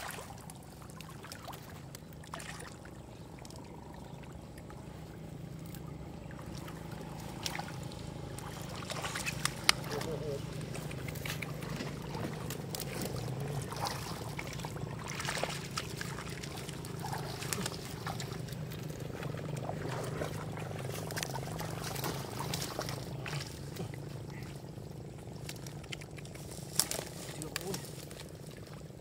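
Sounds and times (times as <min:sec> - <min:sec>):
splashing in muddy water: 0:00.0 - 0:29.0
steady low hum: 0:00.0 - 0:29.0.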